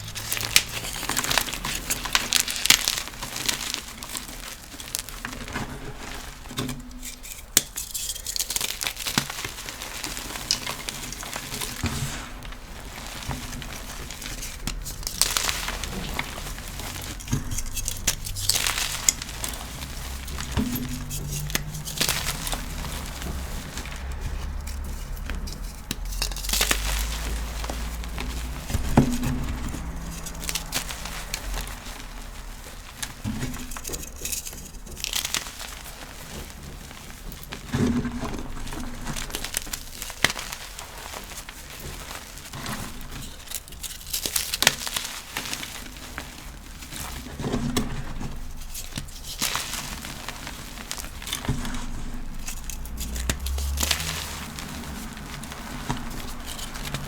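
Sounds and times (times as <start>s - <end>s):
powder blocks crunching by hand: 0.0s - 57.0s
soft powdery hiss: 0.0s - 57.0s.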